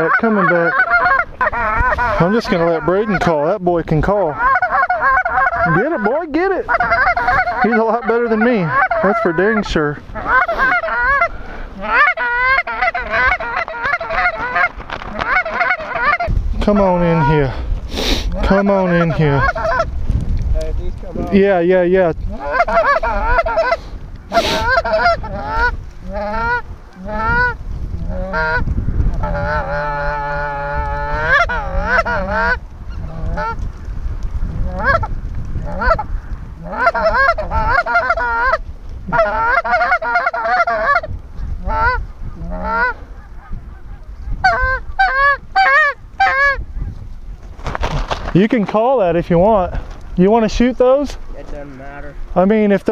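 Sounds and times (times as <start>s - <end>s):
geese honking: 0.0s - 20.0s, 22.2s - 33.9s, 34.6s - 47.0s.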